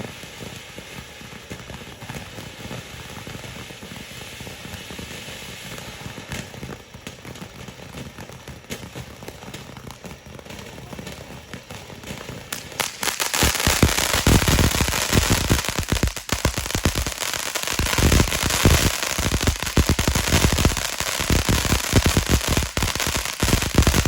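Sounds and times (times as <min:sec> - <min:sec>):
firework crackling pops: 0:00.0 - 0:24.0.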